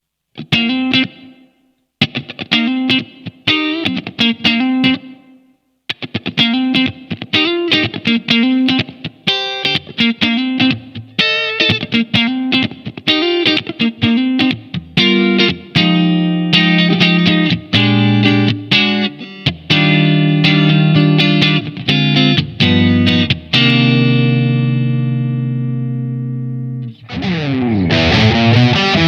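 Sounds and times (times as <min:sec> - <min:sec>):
electric guitar riff: 0:00.3 - 0:29.0.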